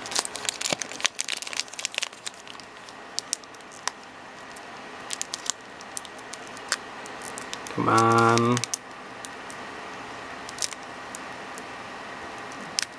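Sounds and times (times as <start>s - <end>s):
foil wrapper crinkling and tearing: 0.0s - 9.6s, 10.4s - 11.7s, 12.4s - 12.9s.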